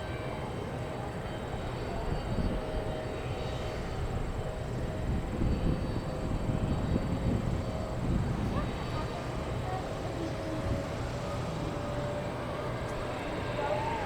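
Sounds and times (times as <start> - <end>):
faint engine whine: 0.0 - 14.0
jet engine low rumble: 0.0 - 14.0.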